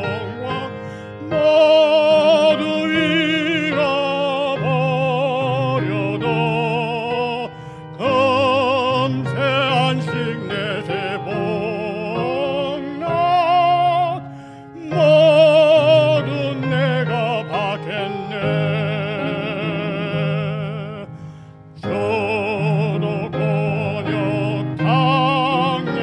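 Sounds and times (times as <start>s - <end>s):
instrumental accompaniment: 0.0s - 26.0s
man singing a hymn: 0.0s - 26.0s.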